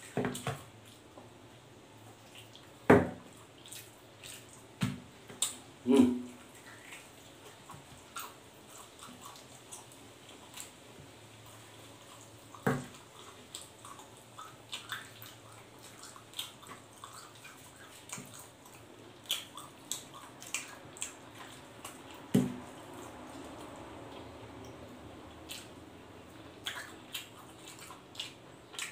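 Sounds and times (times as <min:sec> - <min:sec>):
wet chewing and lip-smacking: 0:02.0 - 0:28.9.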